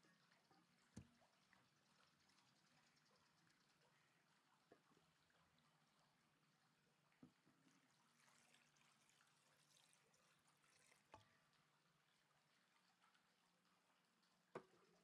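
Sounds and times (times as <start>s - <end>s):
water pouring into pot: 0.1s - 15.0s.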